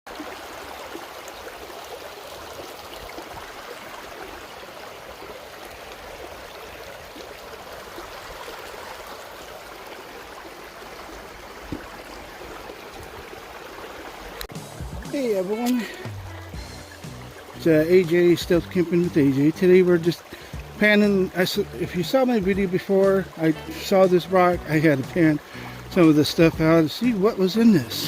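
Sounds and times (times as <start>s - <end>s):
creek water running: 0.1s - 28.0s.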